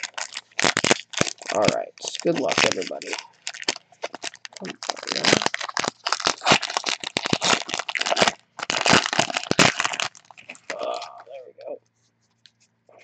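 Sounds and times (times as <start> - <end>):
foil wrapper crinkling and tearing: 0.0 - 11.4.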